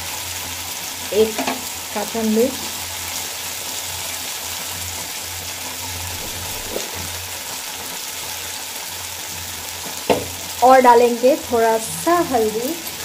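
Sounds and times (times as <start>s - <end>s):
seeds and chilli sizzling in oil: 0.0s - 13.0s.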